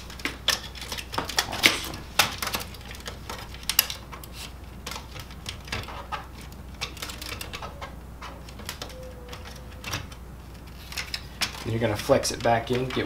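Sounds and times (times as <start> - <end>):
hard plastic parts clicking: 0.0 - 13.0.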